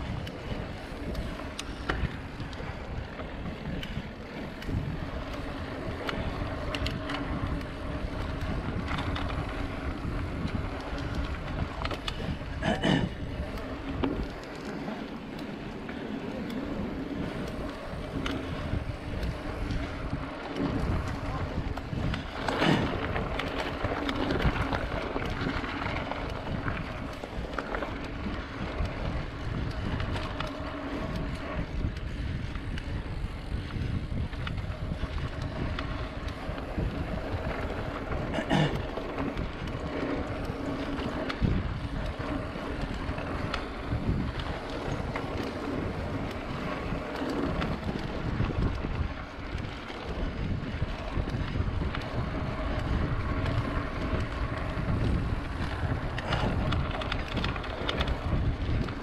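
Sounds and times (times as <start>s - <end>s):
wind on microphone: 0.0s - 15.0s, 16.5s - 59.0s
bike rattles and knocks: 0.0s - 59.0s
bike tyre and frame rumble: 0.0s - 59.0s.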